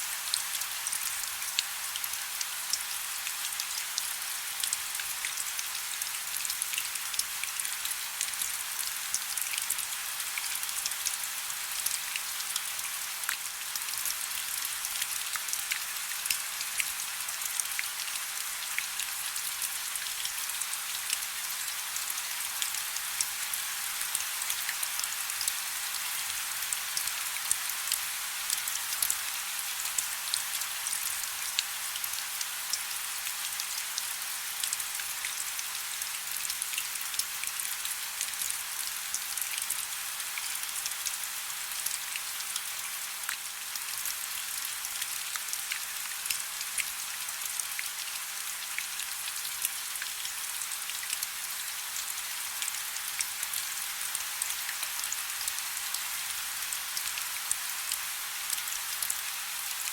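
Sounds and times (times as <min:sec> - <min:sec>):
soft steady rain: 0:00.0 - 0:59.9.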